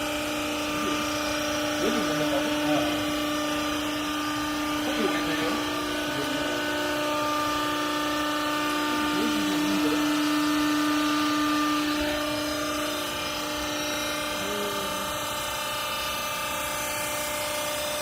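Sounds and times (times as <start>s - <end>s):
electric motor and pump humming: 0.0s - 18.0s.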